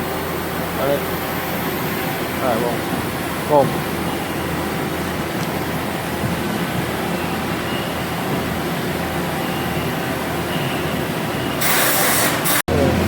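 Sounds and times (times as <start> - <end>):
machinery mechanical hum: 0.0 - 13.0.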